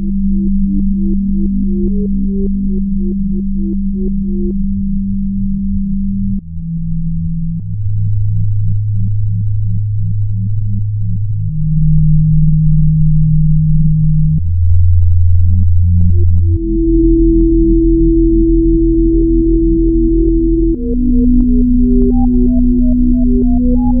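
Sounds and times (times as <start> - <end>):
low held synthesizer tones: 0.0 - 24.0.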